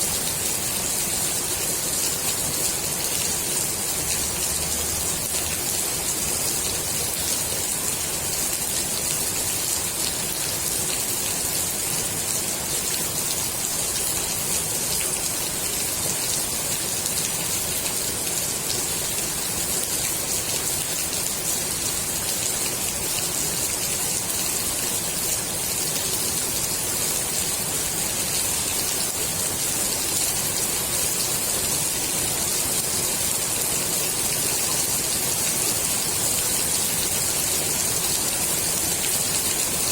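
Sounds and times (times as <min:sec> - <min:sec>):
rain falling on pool water: 0:00.0 - 0:39.9.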